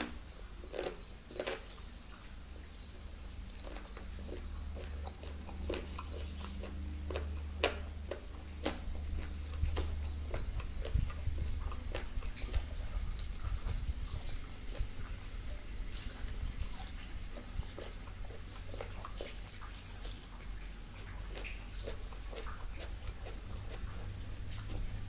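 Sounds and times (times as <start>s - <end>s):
chewing crunchy food: 0.0s - 25.0s
steady low hum: 0.0s - 25.0s.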